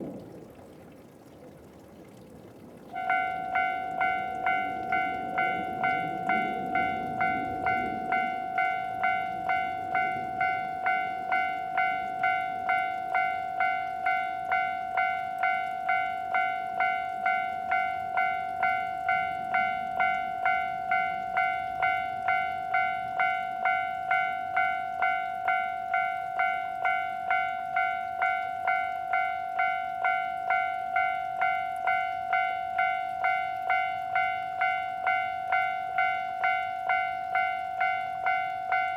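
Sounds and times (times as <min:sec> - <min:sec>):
level crossing alarm ringing: 0:02.9 - 0:38.9.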